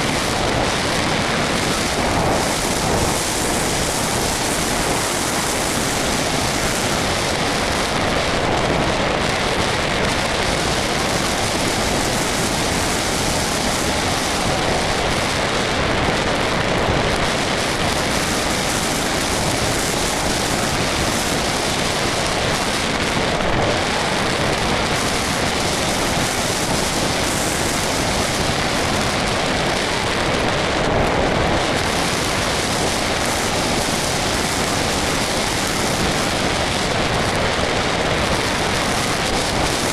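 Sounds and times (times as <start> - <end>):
rush of airflow: 0.0 - 39.9.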